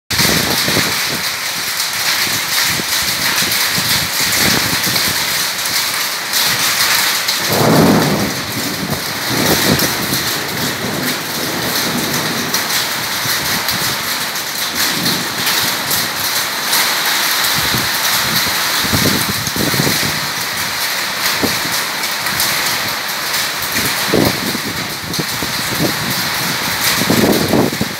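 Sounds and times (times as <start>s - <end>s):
heavy rain on a metal roof: 0.1s - 27.9s.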